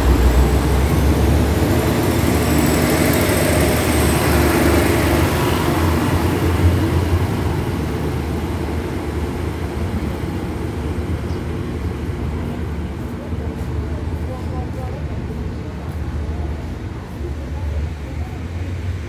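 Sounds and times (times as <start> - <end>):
train engine rumble: 0.0 - 19.0
train wheels on rail: 0.0 - 19.0.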